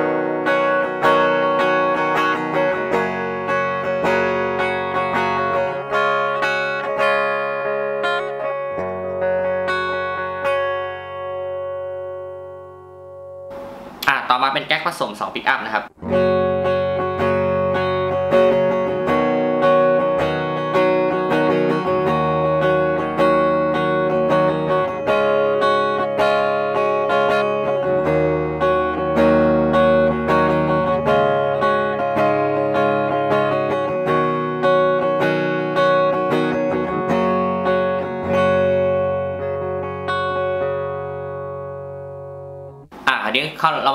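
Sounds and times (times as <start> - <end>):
clean electric guitar chords and notes: 0.0 - 14.1, 15.9 - 43.0.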